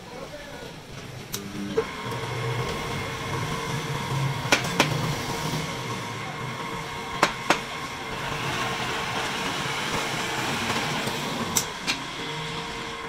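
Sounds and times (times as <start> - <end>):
wood lathe motor hum: 1.2 - 13.0.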